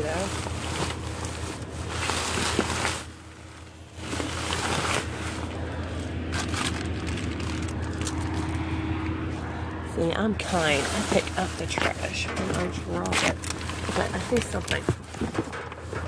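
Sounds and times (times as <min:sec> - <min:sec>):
plastic bags rustling: 0:00.0 - 0:08.7, 0:10.3 - 0:16.0
steady low hum: 0:00.0 - 0:16.0.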